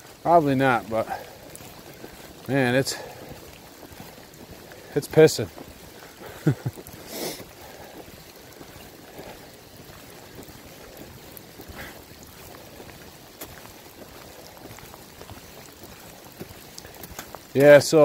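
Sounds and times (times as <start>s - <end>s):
rain falling in woods: 0.0s - 18.0s.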